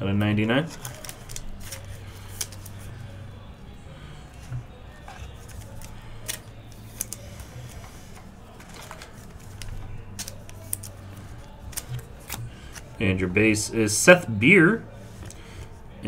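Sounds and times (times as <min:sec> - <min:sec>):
trading cards being handled: 0:00.2 - 0:13.6.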